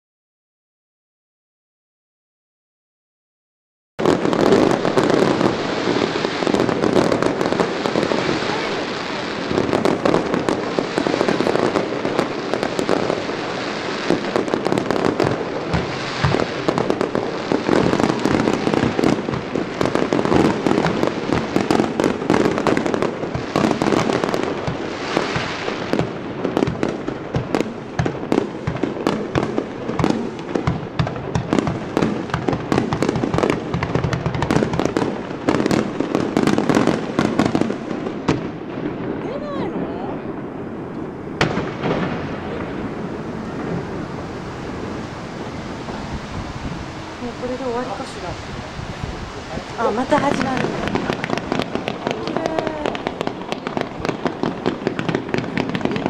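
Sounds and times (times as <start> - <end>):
fireworks bursting: 4.0 - 56.0
fireworks crackling: 4.0 - 56.0.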